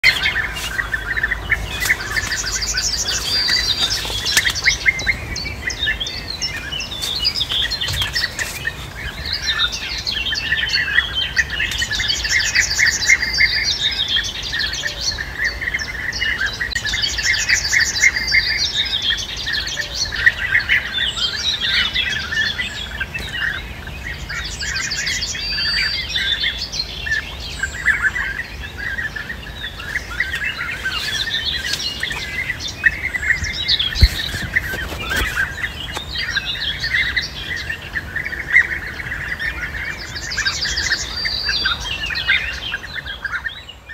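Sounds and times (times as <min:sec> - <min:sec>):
birds calling with rolling trills: 0:00.0 - 0:43.9.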